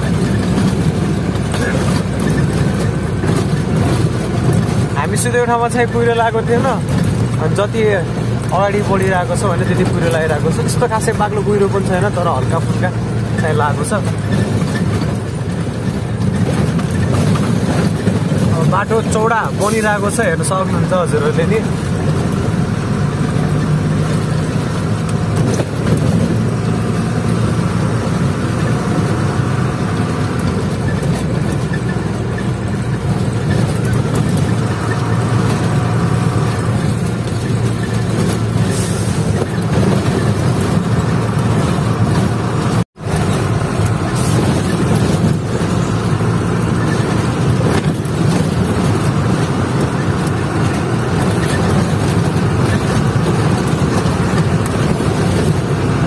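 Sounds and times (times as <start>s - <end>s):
road noise: 0.0s - 56.0s
truck engine running: 0.0s - 56.0s.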